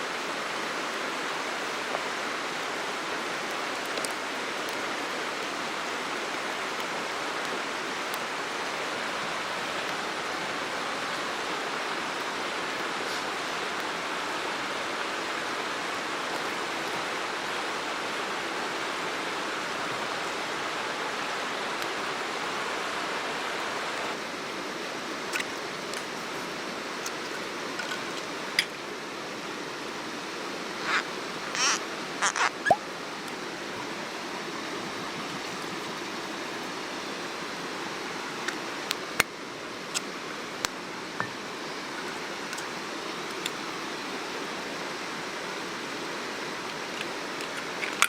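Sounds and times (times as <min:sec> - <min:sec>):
stream flowing: 0:00.0 - 0:48.0.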